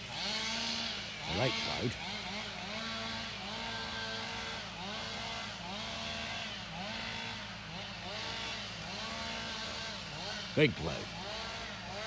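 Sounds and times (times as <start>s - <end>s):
engine revving up and down: 0.0s - 12.0s.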